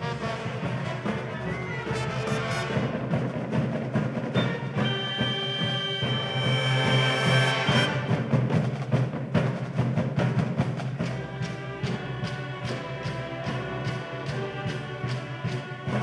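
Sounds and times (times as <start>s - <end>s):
drums striking steady beat: 0.0s - 16.0s
pep band playing: 0.0s - 16.0s.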